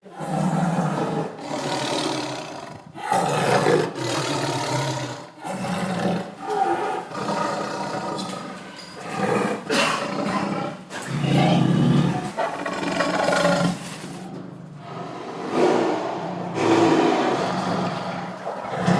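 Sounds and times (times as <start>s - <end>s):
tiger roaring: 0.0s - 18.9s.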